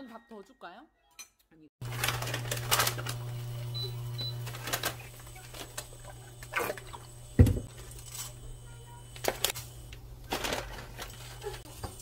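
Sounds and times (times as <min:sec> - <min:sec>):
cooktop low hum: 0:01.2 - 0:12.0.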